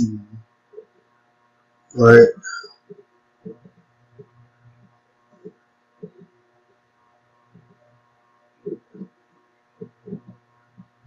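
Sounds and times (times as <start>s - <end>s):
faint electrical mains hum: 0.0s - 11.0s.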